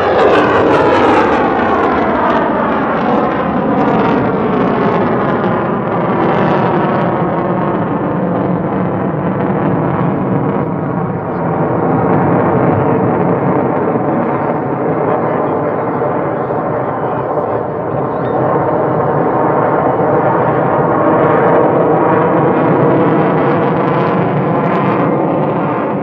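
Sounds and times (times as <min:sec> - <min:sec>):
airplane engine noise: 0:00.0 - 0:26.0.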